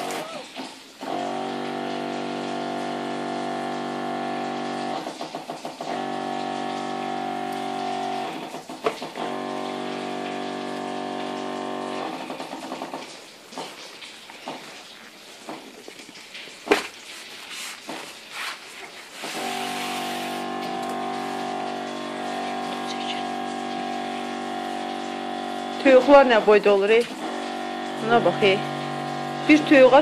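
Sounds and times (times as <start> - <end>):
electric pump humming: 0.0 - 13.6, 19.0 - 30.0.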